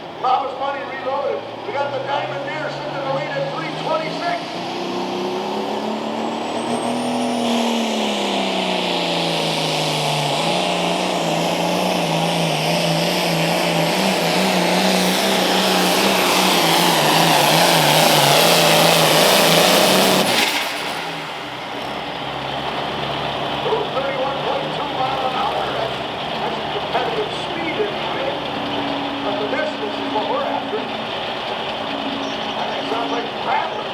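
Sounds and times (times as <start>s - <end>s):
tractor engine at full throttle: 0.0s - 33.9s.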